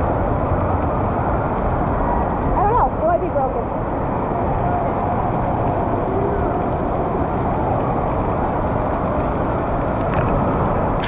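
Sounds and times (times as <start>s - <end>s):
loud rushing water: 0.0s - 11.0s.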